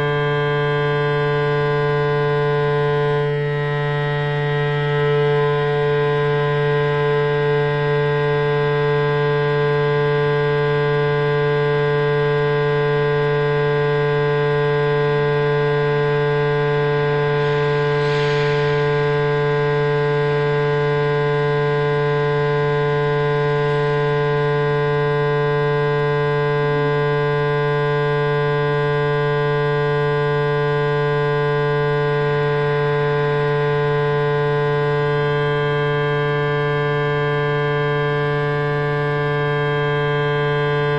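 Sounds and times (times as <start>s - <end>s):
electronic drone with low hum: 0.0s - 40.9s.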